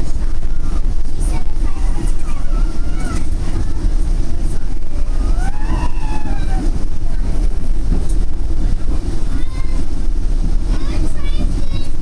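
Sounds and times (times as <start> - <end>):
faint passenger voice: 0.0 - 12.0
train coach rumbling: 0.0 - 12.0.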